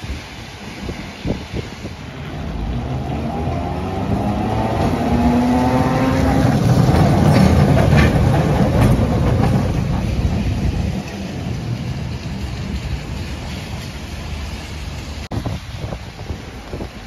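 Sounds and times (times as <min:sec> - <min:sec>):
electric tram passing: 0:00.0 - 0:17.0
tram whine: 0:00.0 - 0:17.0
wheels clicking on rails: 0:00.0 - 0:17.0.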